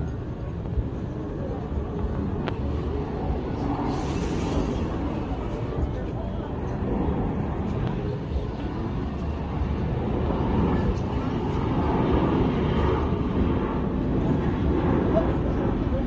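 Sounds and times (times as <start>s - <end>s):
fighter jet engine: 0.0s - 16.0s.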